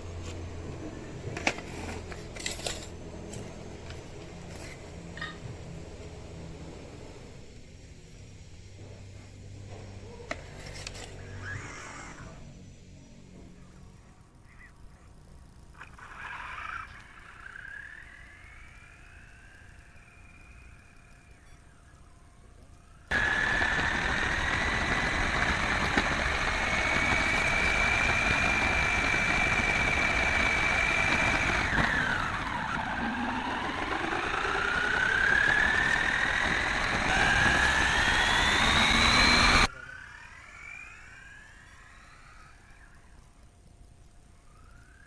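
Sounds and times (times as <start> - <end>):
electric motor whining: 0.0 - 7.5, 10.3 - 12.6, 15.8 - 43.3
drivetrain and tyre noise: 0.0 - 43.1.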